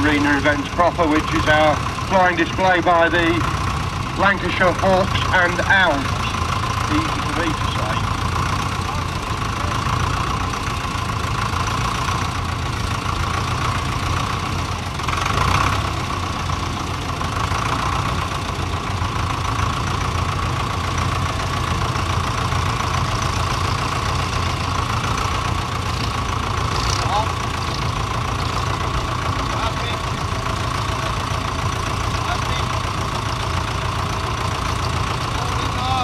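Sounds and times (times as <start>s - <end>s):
tractor engine running at low revs: 0.0s - 36.0s.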